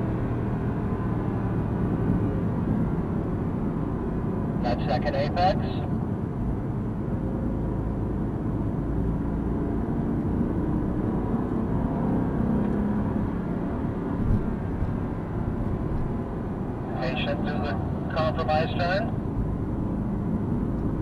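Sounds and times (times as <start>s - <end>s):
car engine and tyre drone: 0.0s - 21.0s.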